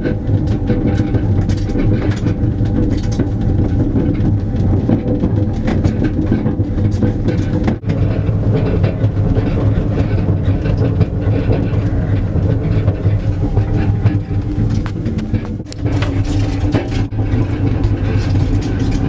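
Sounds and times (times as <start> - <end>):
trailer cart rattling on asphalt: 0.0 - 19.0.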